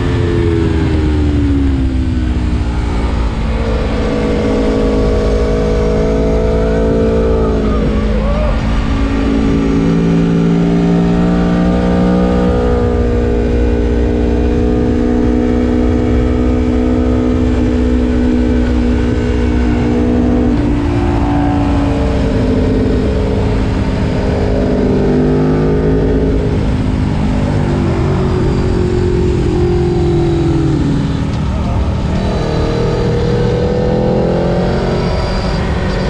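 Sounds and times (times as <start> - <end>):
motorcycle engine running hard: 0.0 - 36.0.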